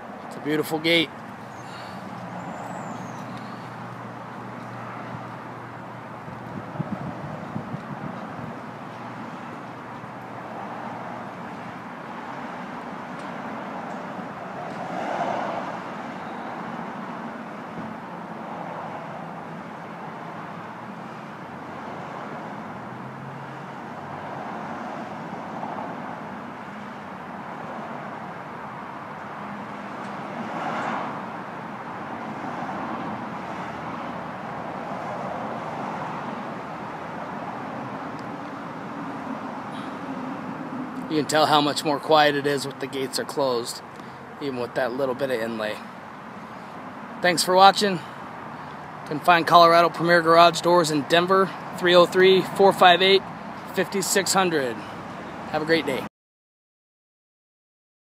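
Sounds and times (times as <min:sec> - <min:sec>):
hum of passing traffic: 0:00.0 - 0:56.1
vehicles passing loudly: 0:00.0 - 0:56.1.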